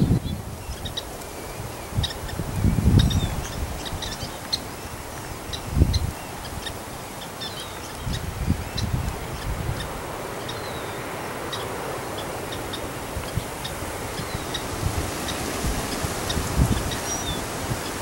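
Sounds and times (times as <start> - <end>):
birds chirping and twittering: 0.0 - 18.0
wind rumbling on microphone: 0.0 - 18.0.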